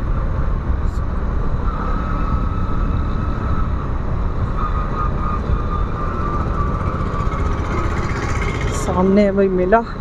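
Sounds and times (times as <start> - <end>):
wind rumble on microphone: 0.0 - 10.0
motorcycle engine running: 1.1 - 10.0.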